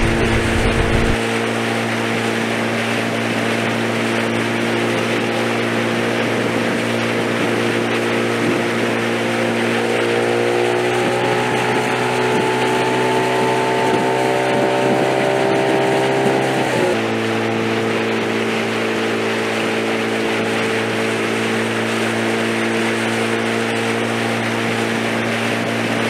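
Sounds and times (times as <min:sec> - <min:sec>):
outboard engine running: 0:00.0 - 0:26.0
rush of wind and water: 0:00.0 - 0:26.0.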